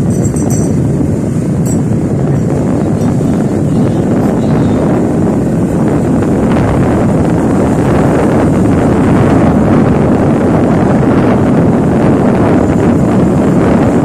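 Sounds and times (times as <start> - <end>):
motorcycle running: 0.0 - 14.0
tyres on concrete road: 0.0 - 14.0
wind buffeting microphone: 0.0 - 14.0.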